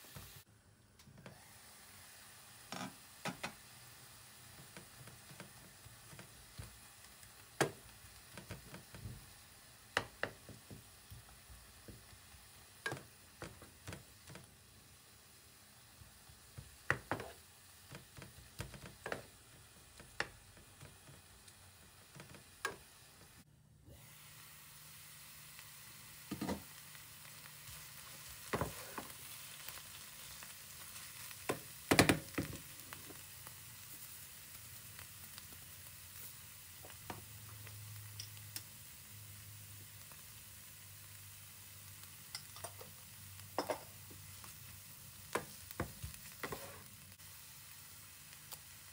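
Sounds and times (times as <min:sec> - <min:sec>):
food sizzling in a frying pan: 0:00.0 - 0:00.5, 0:01.2 - 0:48.9.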